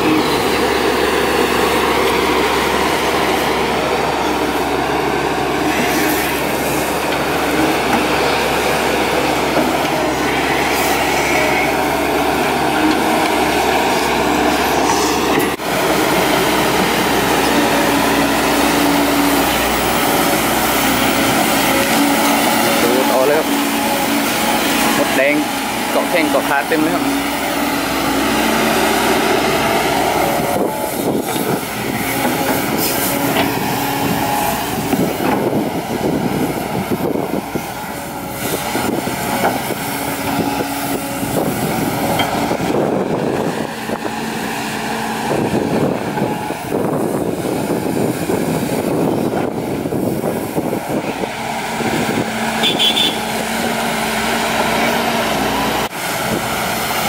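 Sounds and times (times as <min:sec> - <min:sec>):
excavator diesel engine under load: 0:00.0 - 0:57.0
hydraulics working: 0:00.0 - 0:57.0.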